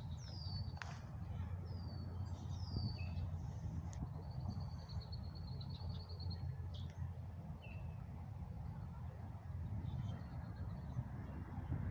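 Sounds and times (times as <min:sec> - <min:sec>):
songbirds singing: 0:00.0 - 0:11.9
steady low rumble: 0:00.0 - 0:11.9.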